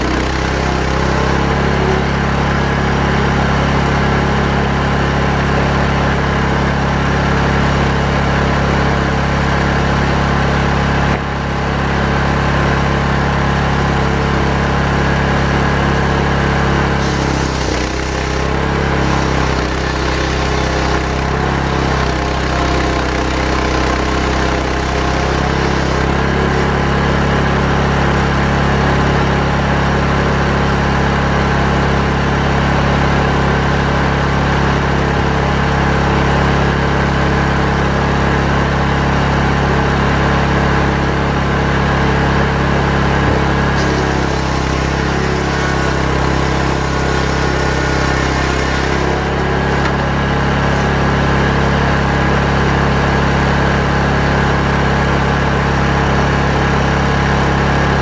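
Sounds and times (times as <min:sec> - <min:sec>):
engine-powered saw cutting log: 0:00.0 - 0:58.0.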